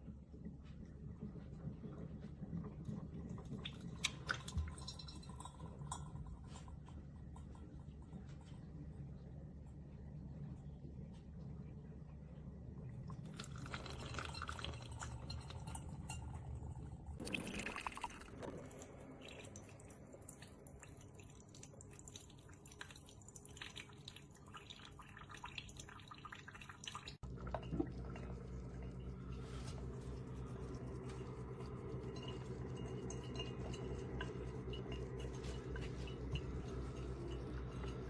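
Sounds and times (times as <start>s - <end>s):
coffee running and dripping: 0.0s - 9.2s, 12.6s - 38.0s
low steady hum: 0.0s - 38.0s.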